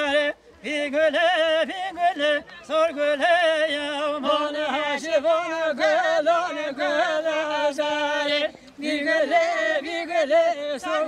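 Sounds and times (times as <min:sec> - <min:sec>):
man singing in a high voice: 0:00.0 - 0:11.0.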